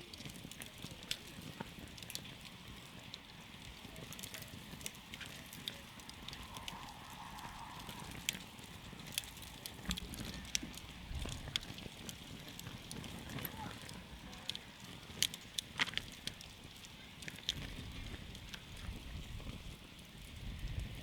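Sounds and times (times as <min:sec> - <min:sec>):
campfire crackling and popping: 0:00.0 - 0:21.0
low rumble of flames: 0:00.0 - 0:21.0.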